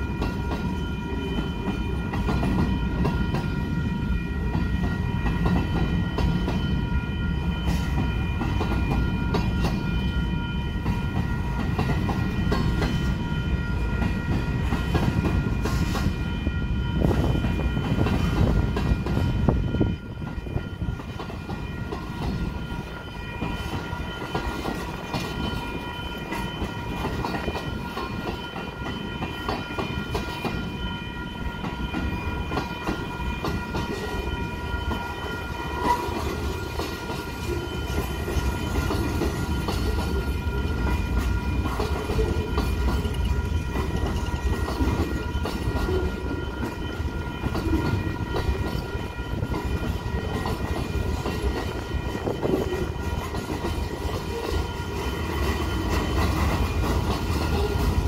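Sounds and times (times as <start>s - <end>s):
freight train rolling past: 0.0s - 58.0s
wheels clickety-clack on rails: 0.0s - 58.0s.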